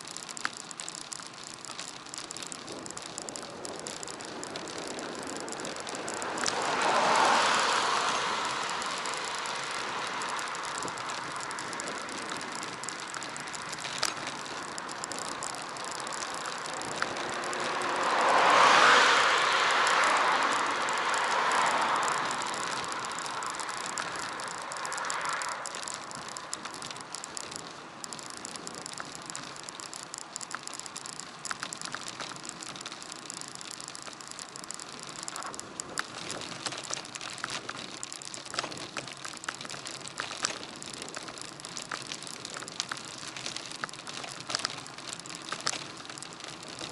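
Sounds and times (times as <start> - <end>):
bicycle rolling: 0.0 - 46.9
faint ticks: 0.0 - 46.9
wind noise: 1.0 - 46.9.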